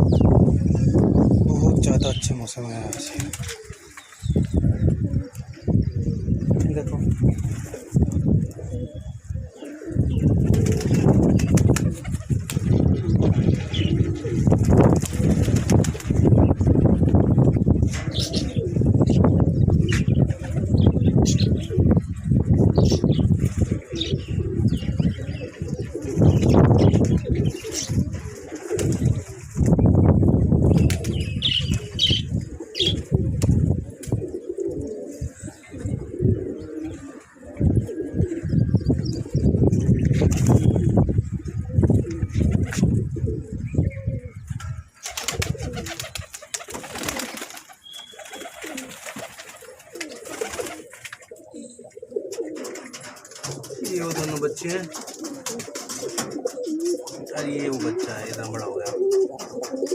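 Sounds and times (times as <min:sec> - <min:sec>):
small birds chirping: 0:00.0 - 0:07.9, 0:08.5 - 0:33.1, 0:34.1 - 0:55.4
pigeons cooing: 0:00.0 - 0:59.9.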